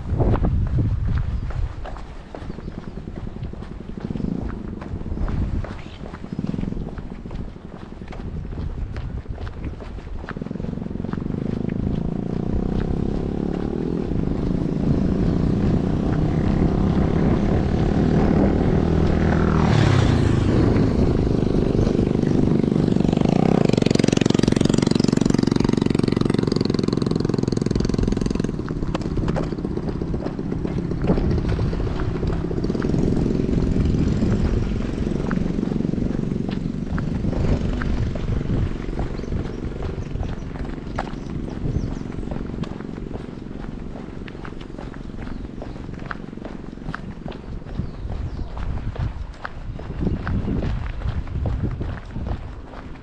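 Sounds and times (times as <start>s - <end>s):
engine and tyre noise: 0.0s - 53.0s
motor vehicles passing: 0.0s - 53.0s
steady low rumble: 0.0s - 53.0s.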